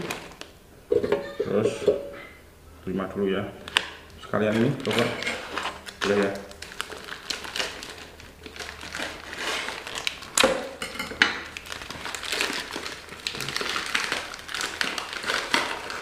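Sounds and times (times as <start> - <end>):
plastic packaging crinkling: 0.0 - 0.6, 3.6 - 16.0.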